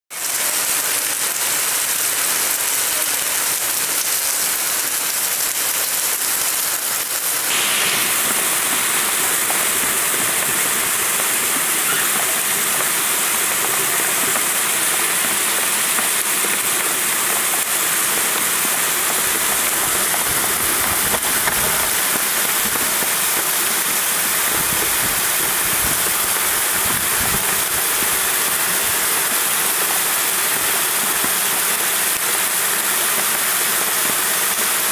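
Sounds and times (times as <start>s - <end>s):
floodwater rushing through drain: 0.1s - 34.9s
torrential rain: 0.1s - 34.9s.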